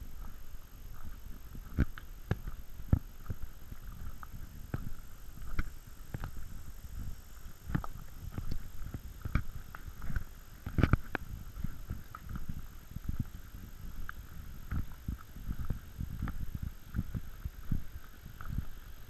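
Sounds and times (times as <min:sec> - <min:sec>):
footsteps crunching on shale stones: 0:00.0 - 0:18.7.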